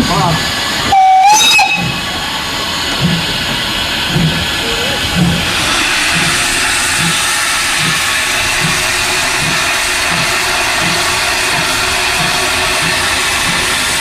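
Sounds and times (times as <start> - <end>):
steam hissing: 0.0 - 14.0
steam locomotive low beat: 0.0 - 14.0.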